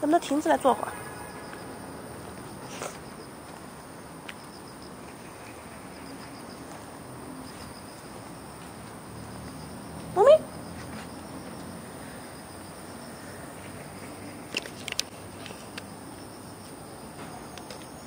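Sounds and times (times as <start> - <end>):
high insect chirping: 0.0 - 18.0
low outdoor hum: 0.0 - 18.0.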